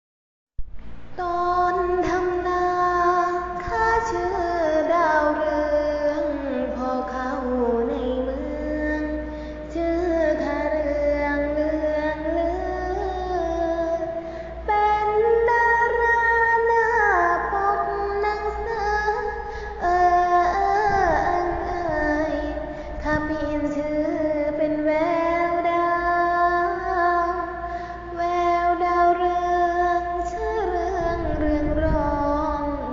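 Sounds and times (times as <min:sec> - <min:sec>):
woman singing: 0:01.2 - 0:32.9.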